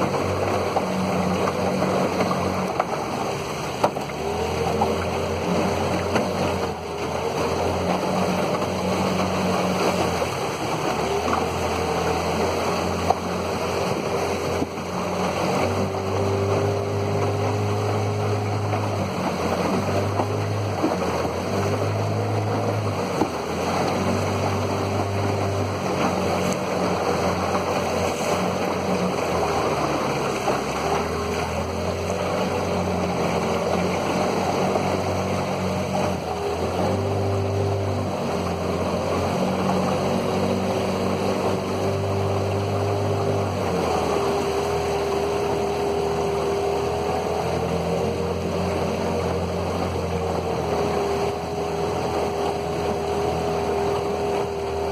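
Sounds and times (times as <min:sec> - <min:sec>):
outboard motor running: 0:00.0 - 0:54.9
water rushing along hull: 0:00.0 - 0:54.9.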